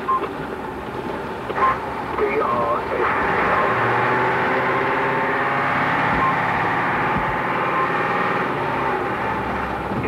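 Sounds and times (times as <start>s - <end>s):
fire engine running inside cab: 0.0s - 10.0s.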